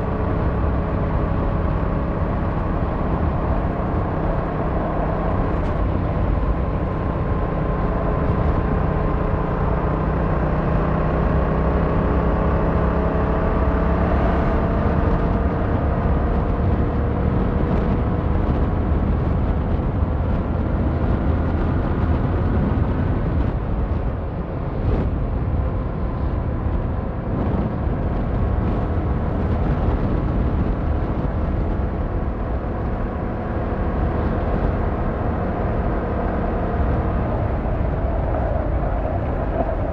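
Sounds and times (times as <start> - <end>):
rumbling wind noise: 0.0 - 39.9.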